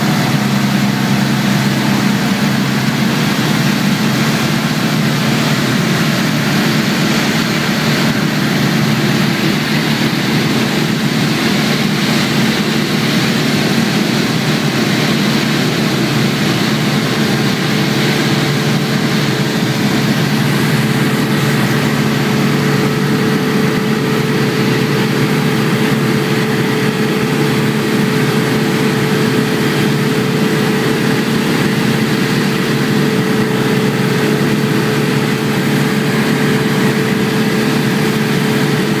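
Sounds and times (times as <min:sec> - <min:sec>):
light aircraft engine drone: 0:00.0 - 0:39.0.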